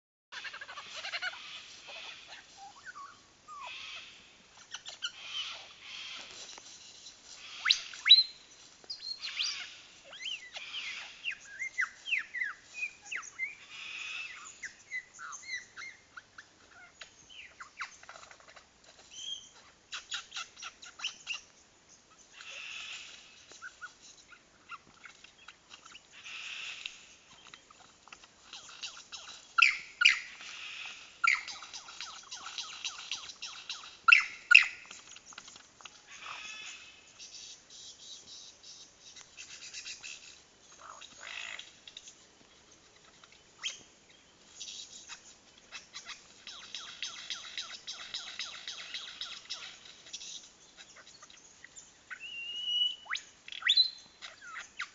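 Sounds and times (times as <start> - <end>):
lyrebird singing: 0.3 - 54.9.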